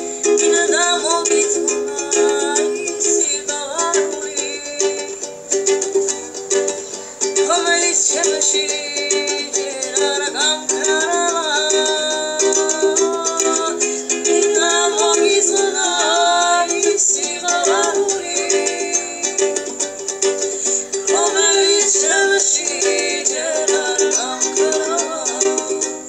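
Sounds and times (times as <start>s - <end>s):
strummed string accompaniment: 0.0s - 26.0s
woman singing slow melody: 0.0s - 26.0s.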